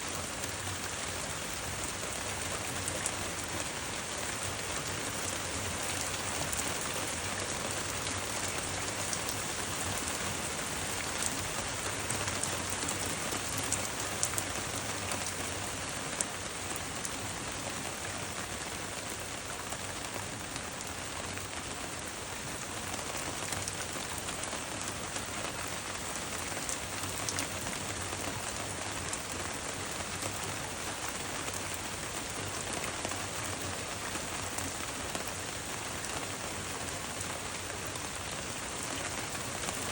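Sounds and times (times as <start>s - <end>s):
rain falling: 0.0s - 39.9s
raindrops ticking: 0.2s - 18.7s, 22.7s - 36.3s.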